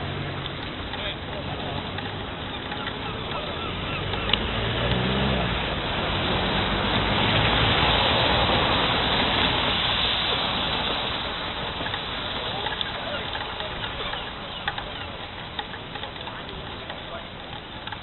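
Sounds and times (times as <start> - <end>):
road vehicle passing by: 0.0 - 18.0.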